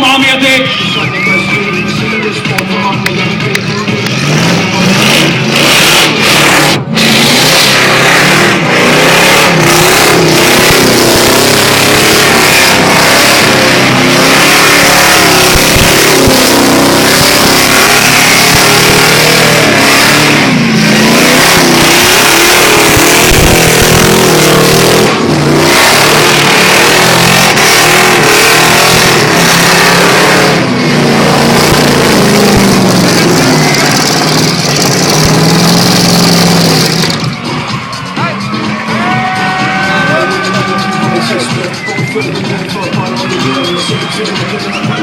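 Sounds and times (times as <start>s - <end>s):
truck engine revving high: 0.0s - 45.0s.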